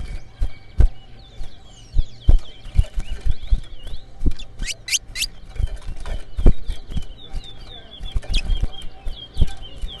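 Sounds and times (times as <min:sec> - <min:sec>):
finches singing: 0:00.0 - 0:10.0.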